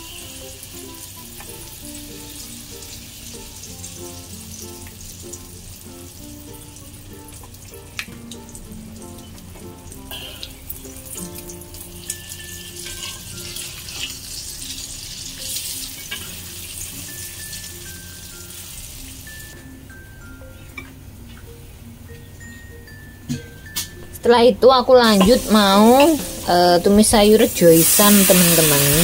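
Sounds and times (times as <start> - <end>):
batter sizzling in hot oil: 0.0 - 19.6, 25.2 - 29.0
soft background music: 0.0 - 29.0.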